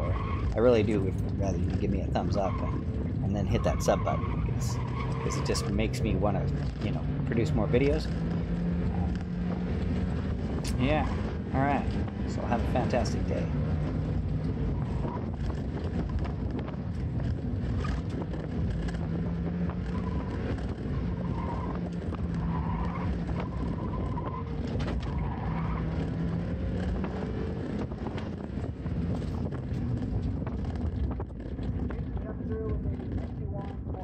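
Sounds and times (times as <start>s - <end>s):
car engine running: 0.0s - 34.0s
tyre and road noise: 0.0s - 34.0s.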